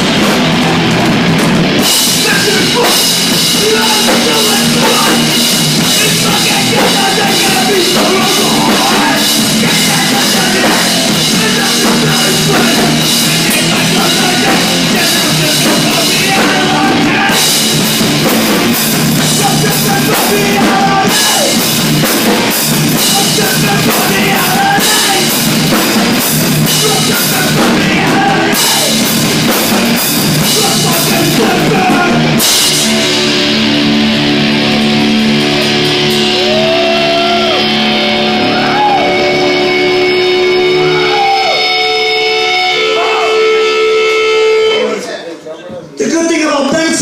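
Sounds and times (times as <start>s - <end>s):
drum kit: 0.0s - 45.0s
distorted electric guitars: 0.0s - 45.1s
hardcore punk band playing: 0.0s - 45.2s
vocals: 1.8s - 47.0s.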